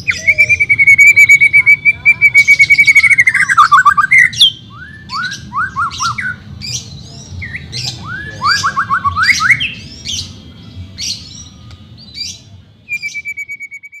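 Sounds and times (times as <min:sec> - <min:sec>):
bird singing whistled notes: 0:00.0 - 0:14.0
bird trill: 0:00.0 - 0:14.0.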